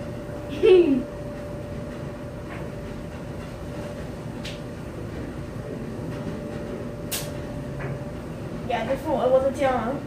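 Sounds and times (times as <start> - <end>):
laundry machines droning: 0.0 - 10.0.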